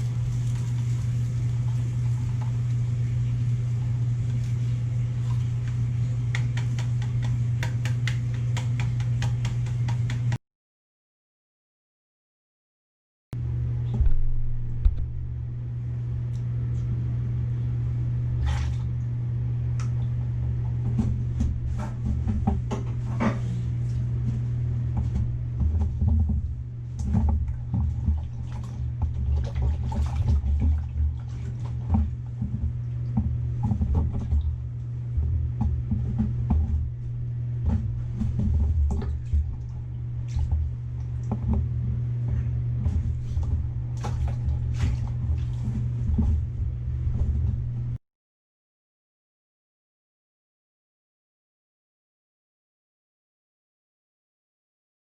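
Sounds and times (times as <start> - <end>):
steady low hum: 0.0 - 10.4, 13.4 - 48.0.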